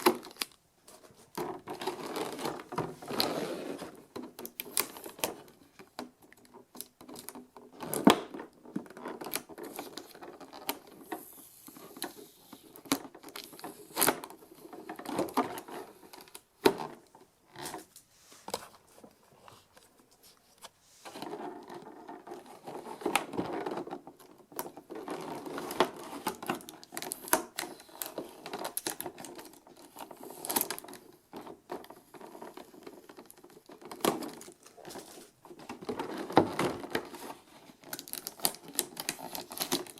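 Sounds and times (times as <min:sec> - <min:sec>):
plastic and cardboard rustling: 0:00.0 - 0:39.9.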